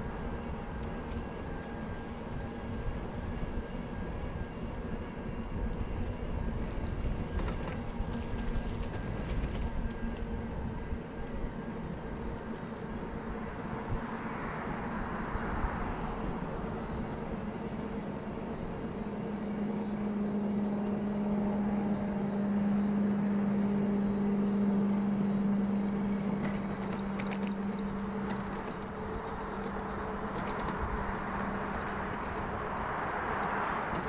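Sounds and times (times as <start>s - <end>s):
e-bike motor humming: 0.0s - 34.0s.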